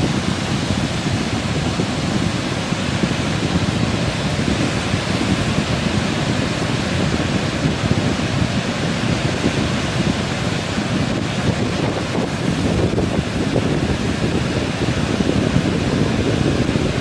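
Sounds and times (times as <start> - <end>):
heavy ocean surf: 0.0 - 17.0
wind buffeting microphone: 0.0 - 17.0.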